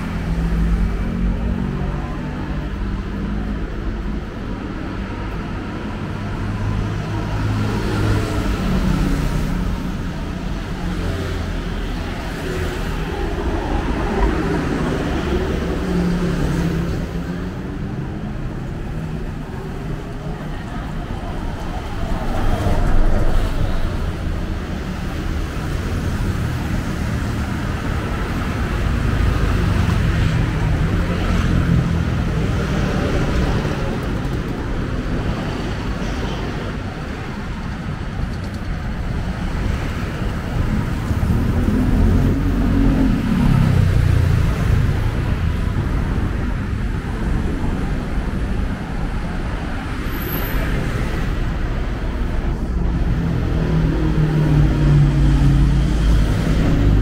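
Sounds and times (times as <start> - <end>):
traffic rumble: 0.0 - 57.0.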